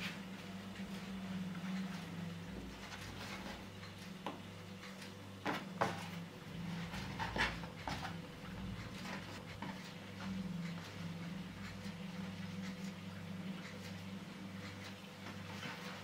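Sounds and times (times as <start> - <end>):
low steady hum: 0.0 - 16.0
hands tapping and rubbing dough: 1.6 - 16.0.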